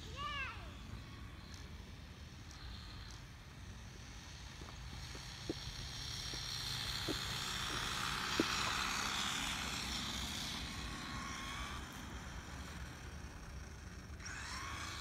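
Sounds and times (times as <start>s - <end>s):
toy truck motor whirring: 0.7s - 15.0s.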